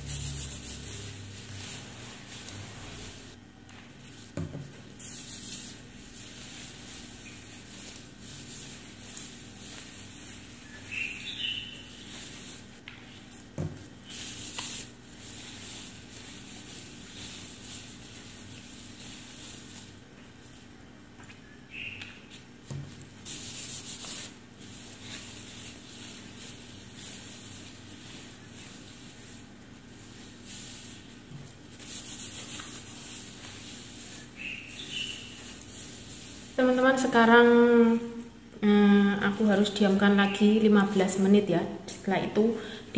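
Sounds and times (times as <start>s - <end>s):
hands rustling in wet hair: 0.0s - 36.9s.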